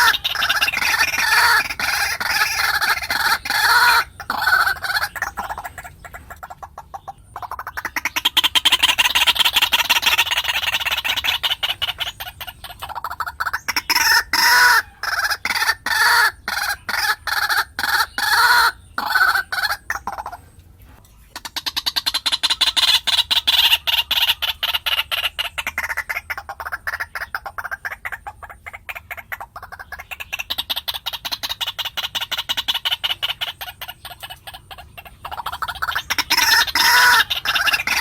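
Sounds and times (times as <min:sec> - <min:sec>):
waterhen calling: 0:00.0 - 0:38.0.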